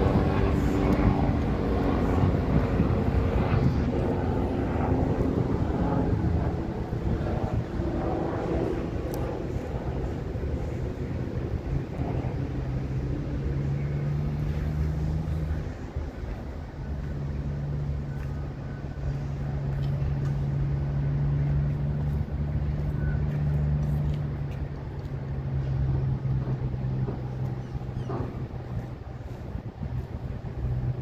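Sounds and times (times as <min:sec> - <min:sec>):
locomotive engine drone: 0:00.0 - 0:31.0.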